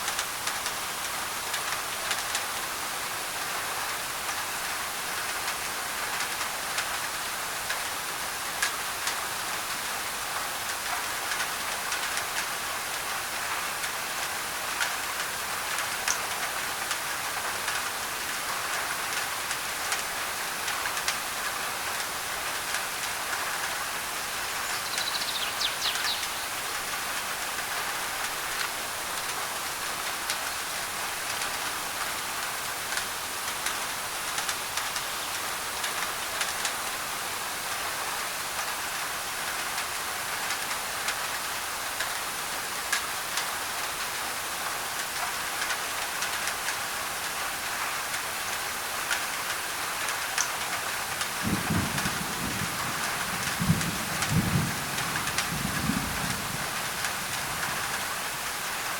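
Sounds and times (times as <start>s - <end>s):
heavy rain on a tin roof: 0.0s - 58.9s.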